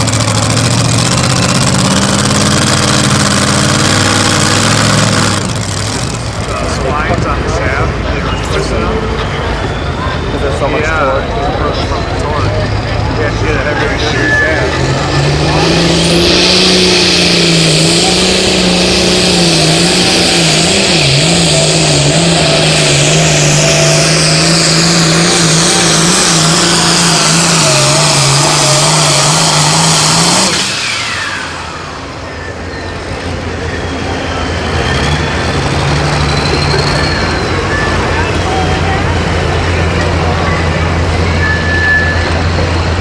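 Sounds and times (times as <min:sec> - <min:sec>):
tractor diesel engine roaring: 0:00.0 - 0:43.0.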